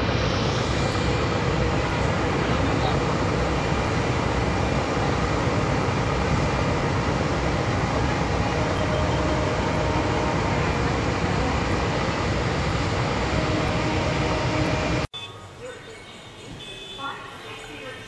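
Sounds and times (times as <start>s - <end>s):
boat engine rumbling: 0.0s - 15.8s.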